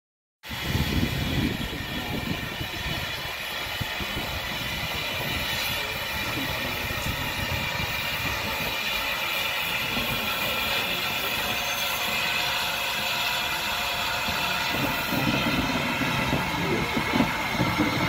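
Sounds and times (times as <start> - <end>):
steam locomotive hiss: 0.5 - 18.0.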